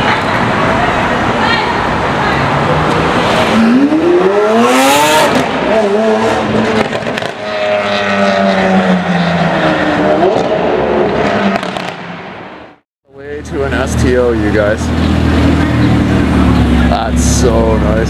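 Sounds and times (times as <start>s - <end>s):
car engine revving: 0.3s - 12.8s, 13.4s - 18.0s.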